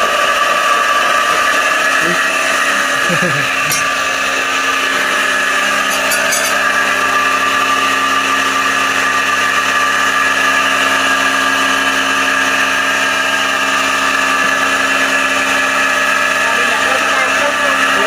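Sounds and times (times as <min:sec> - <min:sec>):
motor whining steadily: 0:00.0 - 0:18.0.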